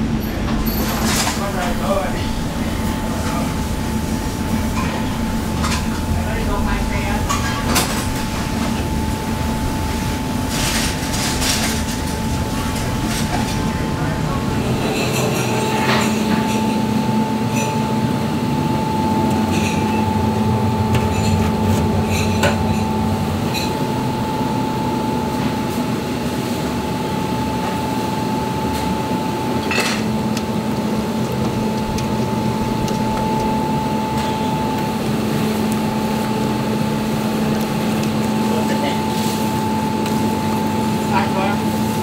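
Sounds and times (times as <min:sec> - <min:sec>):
kitchen equipment humming: 0:00.0 - 0:42.0.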